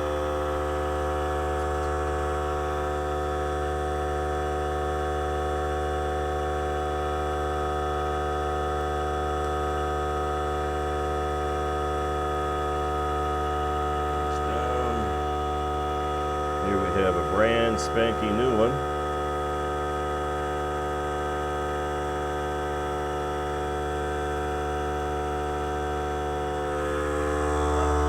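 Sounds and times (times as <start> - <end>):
compressor humming: 0.0 - 28.0.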